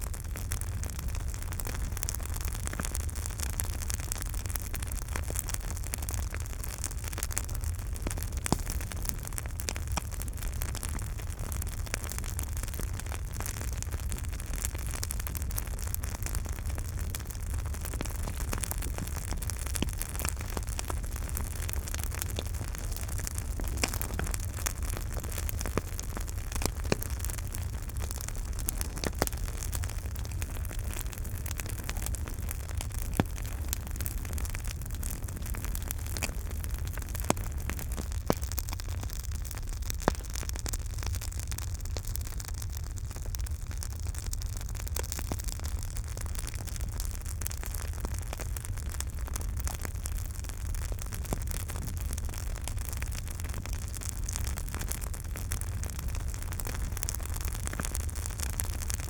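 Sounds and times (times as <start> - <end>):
campfire crackling: 0.0 - 59.0
rumble and hiss of flames: 0.0 - 59.0.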